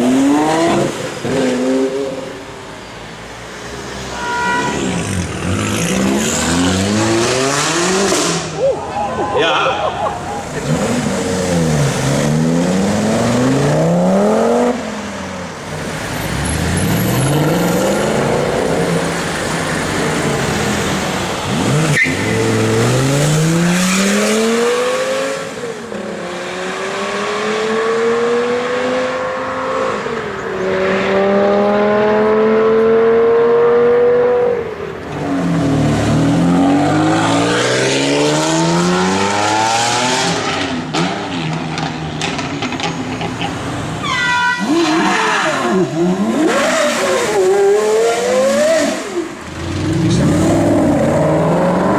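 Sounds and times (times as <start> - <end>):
car engines accelerating hard: 0.0 - 2.8, 4.9 - 44.0, 44.7 - 51.9.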